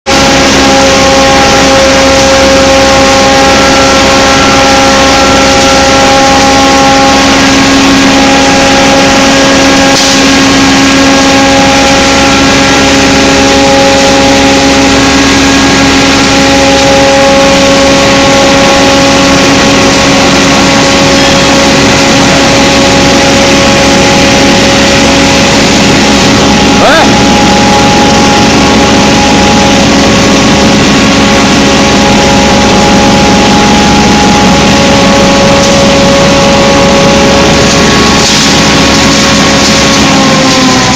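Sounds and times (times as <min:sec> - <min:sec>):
sawdust machine running: 0:00.1 - 0:40.9.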